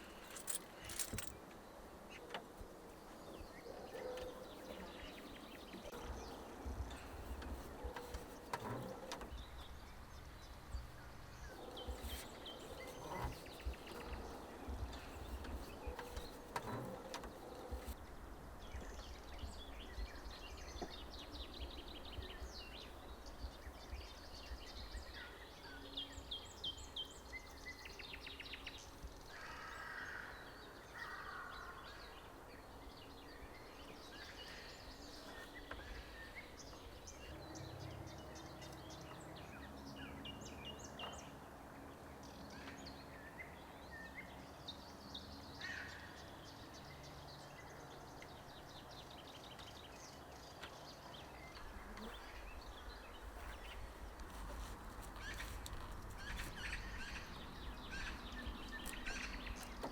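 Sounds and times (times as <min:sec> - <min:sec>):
small birds chirping: 0:00.0 - 0:41.4, 0:42.2 - 0:59.9.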